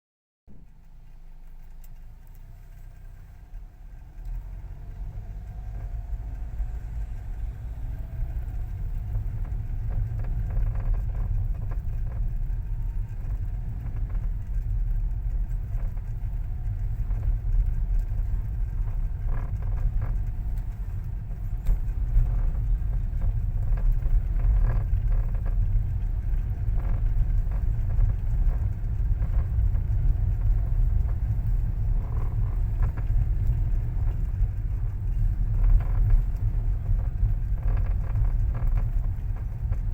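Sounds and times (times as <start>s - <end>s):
car rumble: 0.5s - 39.9s.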